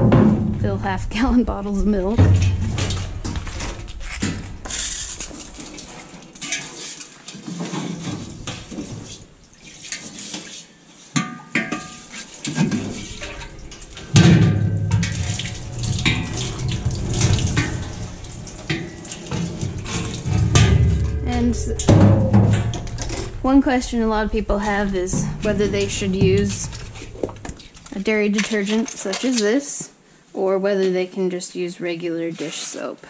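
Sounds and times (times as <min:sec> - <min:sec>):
steel pail knocks and clanks: 0:00.0 - 0:00.7, 0:02.0 - 0:10.5, 0:11.1 - 0:29.1
water splashing into steel pail: 0:02.1 - 0:29.1.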